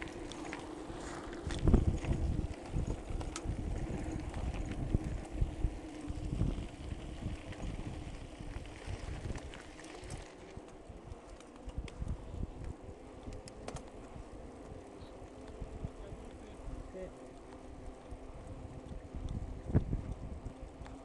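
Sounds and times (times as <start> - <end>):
mountain bike rumbling and rattling: 0.0 - 21.0
wind buffeting microphone: 0.0 - 21.0.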